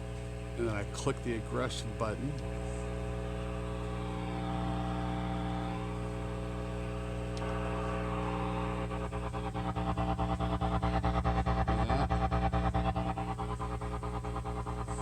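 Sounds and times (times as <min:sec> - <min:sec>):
guitar amp hissing and humming: 0:00.0 - 0:15.0
rapid pulsing: 0:00.5 - 0:15.0.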